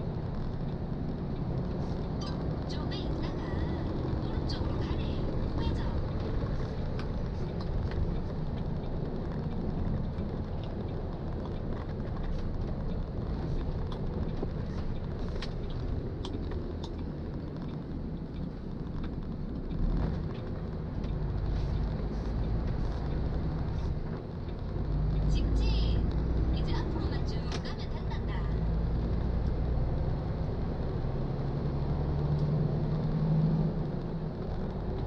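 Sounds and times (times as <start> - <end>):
truck engine and road rumble: 0.0 - 35.0.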